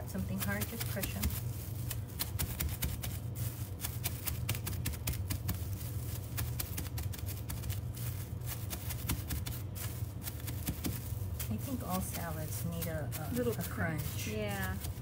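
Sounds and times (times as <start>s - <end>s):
seeds crushed in plastic bag: 0.0s - 15.0s
steady low hum: 0.0s - 15.0s.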